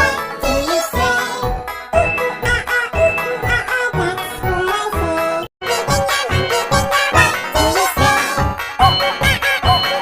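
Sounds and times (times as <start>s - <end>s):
children's song with steady beat: 0.0s - 10.0s.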